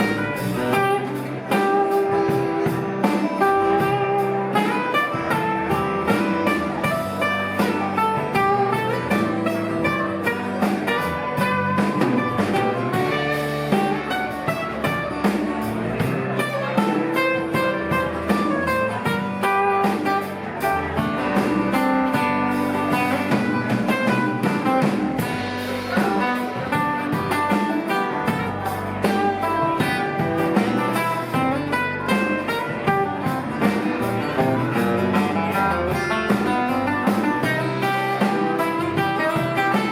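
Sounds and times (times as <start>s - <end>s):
blues band playing: 0.0s - 39.9s
drum hits: 0.0s - 39.9s
guitars playing: 0.0s - 39.9s.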